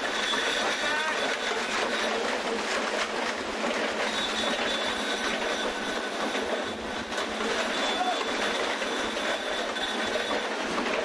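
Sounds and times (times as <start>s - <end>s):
winch running: 0.0s - 11.0s.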